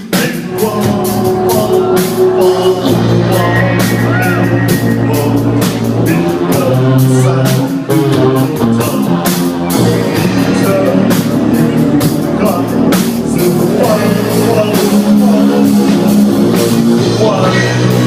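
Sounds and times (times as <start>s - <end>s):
bass guitar: 0.0s - 18.0s
drum kit with cymbal hits: 0.0s - 18.0s
person singing: 0.0s - 18.0s.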